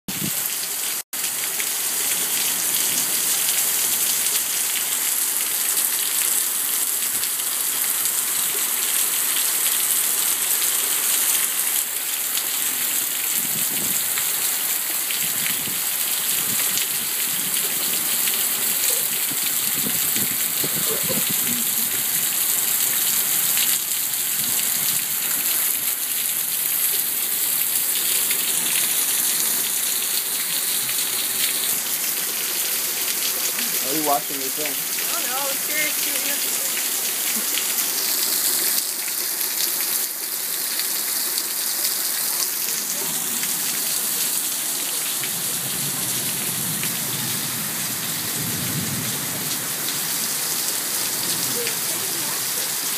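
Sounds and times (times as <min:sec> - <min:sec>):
heavy rain pouring: 0:00.1 - 0:52.9.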